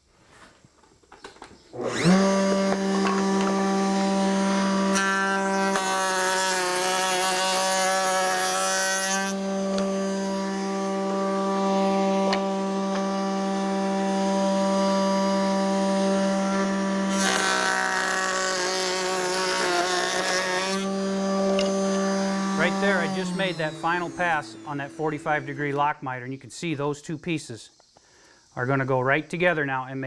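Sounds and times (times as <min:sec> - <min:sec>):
router whining: 0:01.7 - 0:25.9
router cutting through wood: 0:01.7 - 0:26.0.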